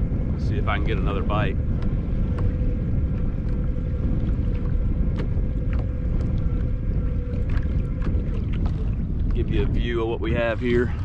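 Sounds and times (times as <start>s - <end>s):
faint steady hum: 0.0s - 11.0s
wind buffeting microphone: 0.0s - 11.0s
water splashes: 0.4s - 11.0s.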